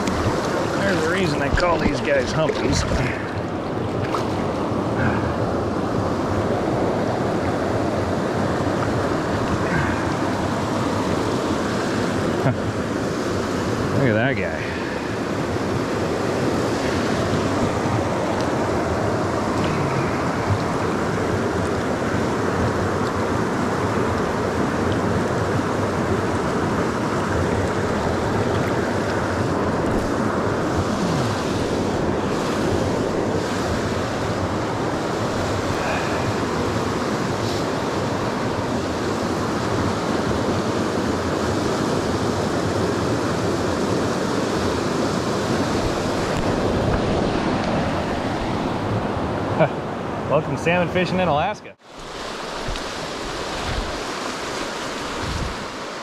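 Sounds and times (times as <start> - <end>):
river rapids rushing over stones: 0.0 - 49.5, 51.8 - 56.0.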